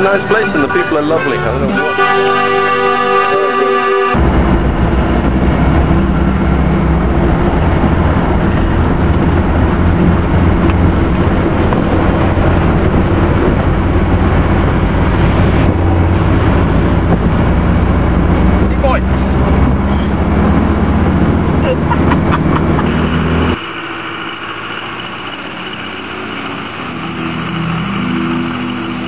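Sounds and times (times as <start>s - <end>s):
diesel engine droning: 0.0s - 29.0s
road and wind noise: 0.0s - 29.0s.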